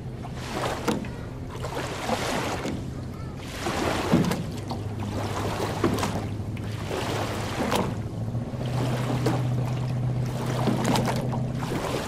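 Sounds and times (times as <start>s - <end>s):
steady low hum: 0.0s - 12.0s
waves lapping on sandy shore: 0.0s - 12.0s
sharp slaps of water: 0.4s - 8.0s, 8.6s - 12.0s.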